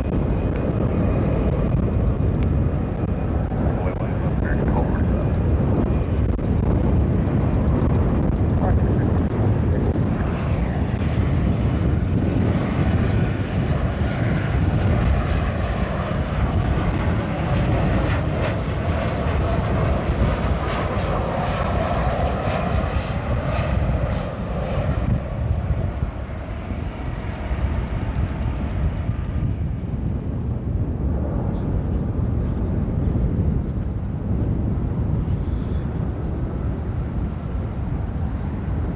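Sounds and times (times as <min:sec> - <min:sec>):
jet plane passing: 0:00.0 - 0:38.9.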